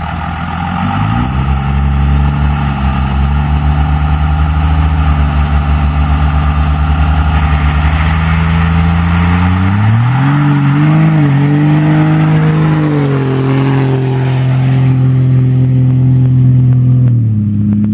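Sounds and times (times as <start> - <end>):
diesel engine accelerating: 0.0 - 17.9
high whine: 0.0 - 17.9.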